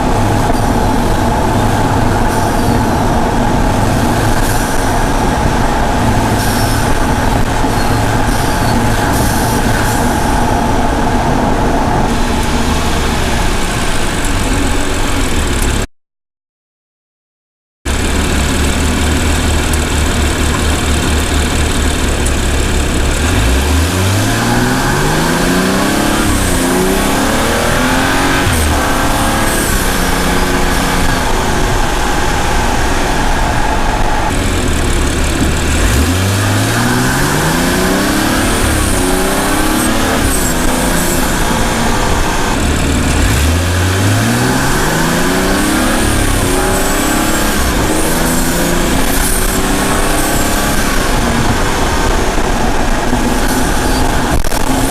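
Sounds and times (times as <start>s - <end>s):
car exhaust revving through gears: 0.0s - 15.8s, 17.9s - 54.9s.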